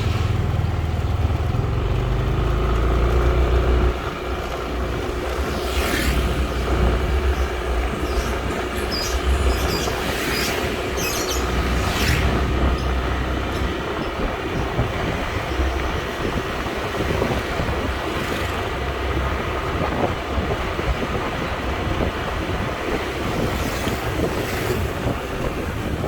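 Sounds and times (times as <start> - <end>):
vehicle engine running: 0.0 - 26.0
wind buffeting microphone: 0.0 - 26.0.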